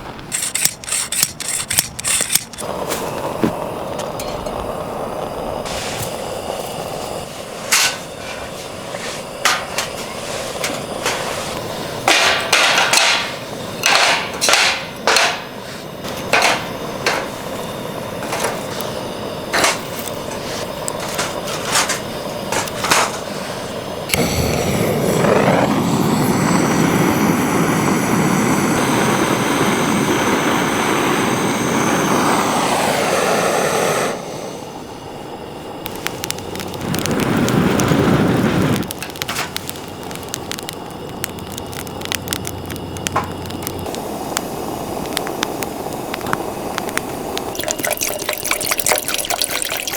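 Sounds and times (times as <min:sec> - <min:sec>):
gas torch burner roaring: 0:00.0 - 0:49.9.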